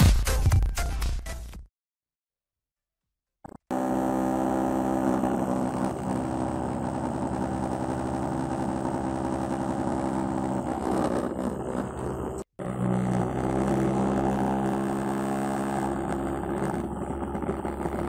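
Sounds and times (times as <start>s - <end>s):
vibration motor buzzing: 3.5s - 18.0s.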